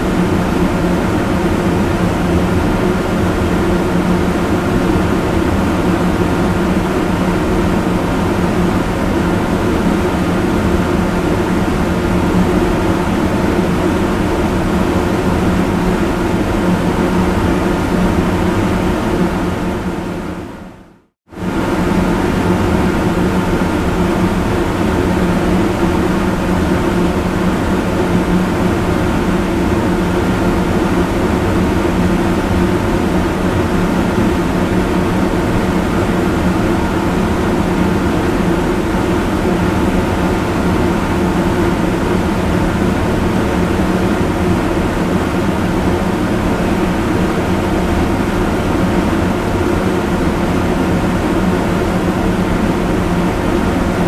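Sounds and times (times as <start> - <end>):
loud fan running: 0.0 - 54.0.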